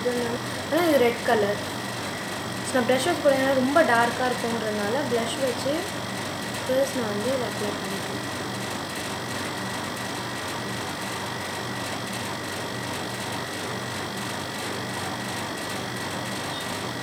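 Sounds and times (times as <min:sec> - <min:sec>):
mechanical hum and hiss: 0:00.0 - 0:17.0.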